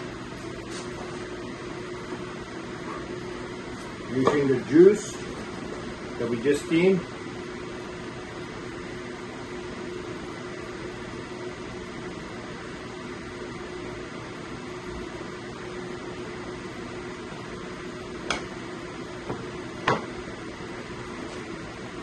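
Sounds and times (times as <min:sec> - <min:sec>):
fan-like hum: 0:00.0 - 0:22.0.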